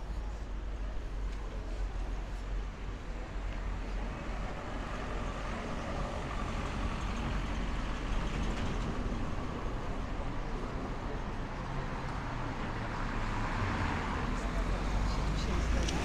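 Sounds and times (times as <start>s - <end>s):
road traffic engines: 0.0s - 16.0s.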